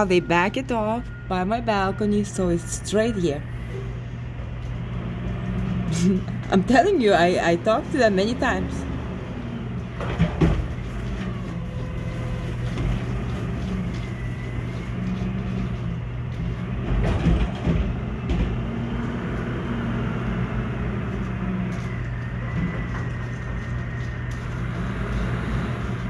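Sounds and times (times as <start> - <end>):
garbage truck engine humming: 0.0 - 26.0.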